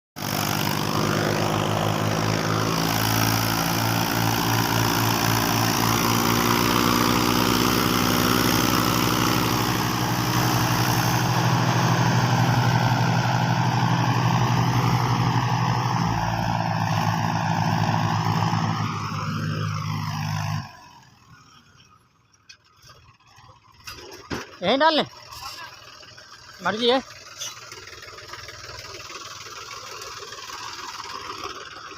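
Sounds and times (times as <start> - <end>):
tractor diesel engines running: 0.2 - 31.9.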